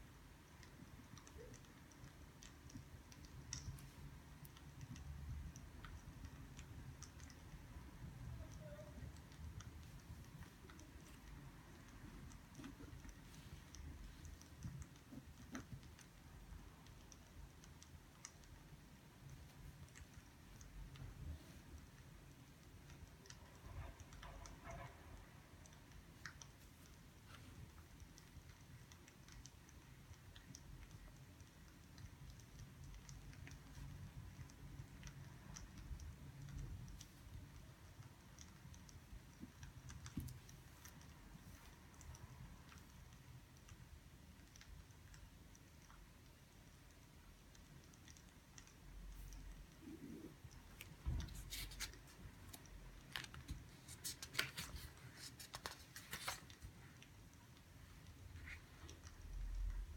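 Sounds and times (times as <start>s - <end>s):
faint light clicks and ticks: 0.0s - 59.9s.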